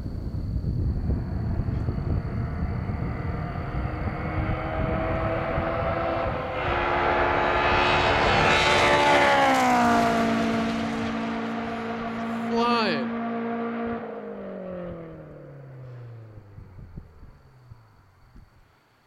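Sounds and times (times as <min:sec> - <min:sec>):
car engine passing by: 0:00.7 - 0:18.6.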